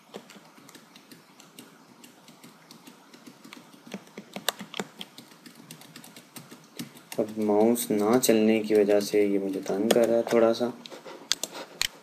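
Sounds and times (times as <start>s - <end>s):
keyboard and mouse clicks: 0.0s - 12.0s.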